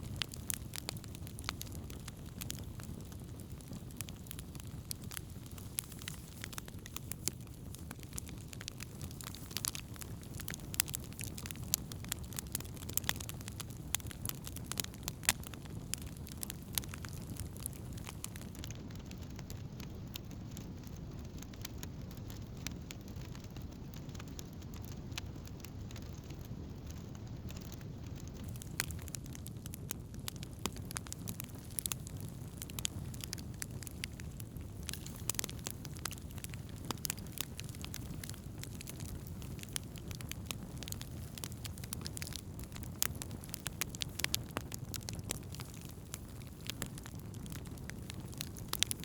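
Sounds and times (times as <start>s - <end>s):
logs crackling and popping: 0.0s - 49.0s
low rush of flame: 0.0s - 49.0s.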